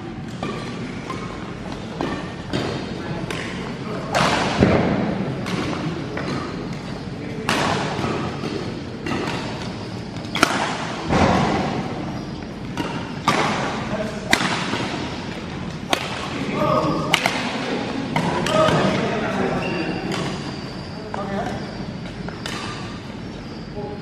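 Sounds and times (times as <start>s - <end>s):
rackets striking shuttlecock: 0.2s - 23.3s.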